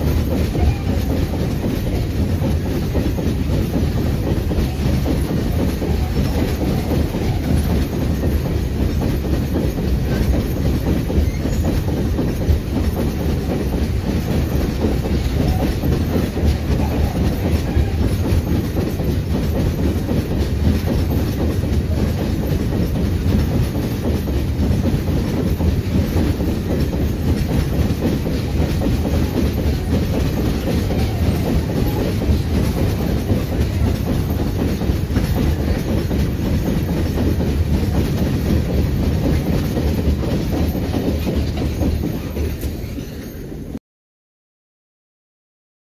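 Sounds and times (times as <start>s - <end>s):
freight train rumbling past: 0.0s - 43.8s.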